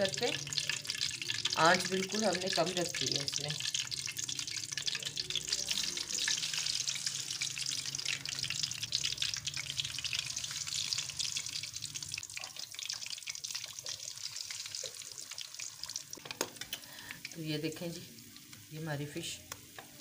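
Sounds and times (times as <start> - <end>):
fish frying in hot oil: 0.0 - 20.0.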